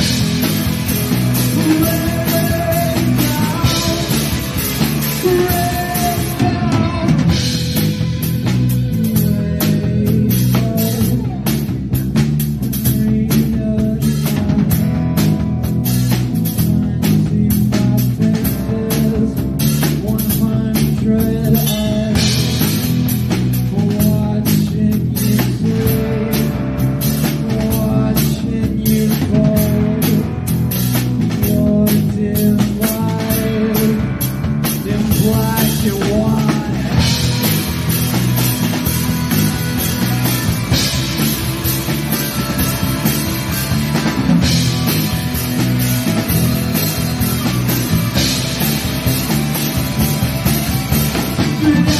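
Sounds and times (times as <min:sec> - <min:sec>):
bass guitar: 0:00.0 - 0:51.9
drum kit: 0:00.0 - 0:51.9
electric guitars: 0:00.0 - 0:51.9.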